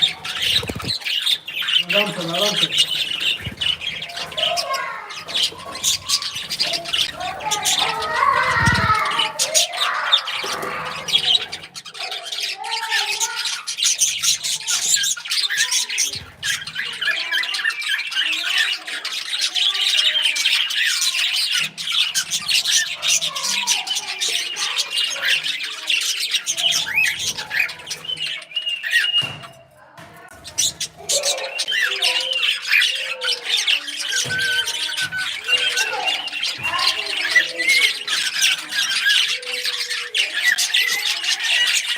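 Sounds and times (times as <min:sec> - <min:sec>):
parrots chirping and squawking: 0:00.0 - 0:41.9.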